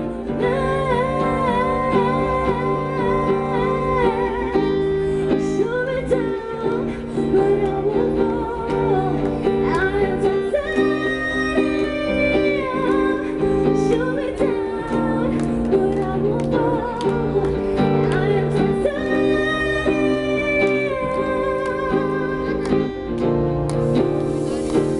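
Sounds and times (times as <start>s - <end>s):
acoustic guitar strumming: 0.0s - 24.9s
woman singing into microphone: 0.0s - 24.9s.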